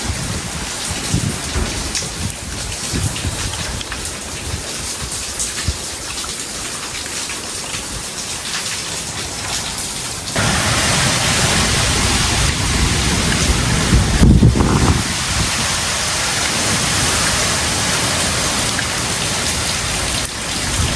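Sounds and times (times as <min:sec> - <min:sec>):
heavy rain falling: 0:00.0 - 0:20.9
raindrops tapping: 0:00.0 - 0:20.9.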